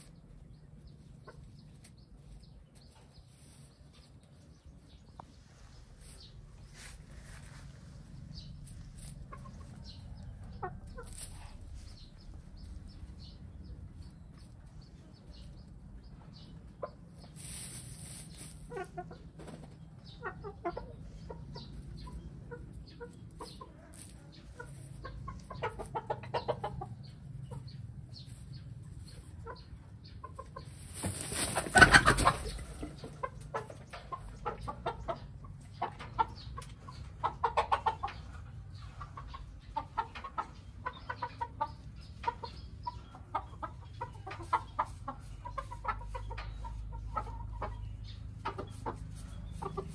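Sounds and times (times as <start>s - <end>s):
hens clucking: 0.0s - 49.9s.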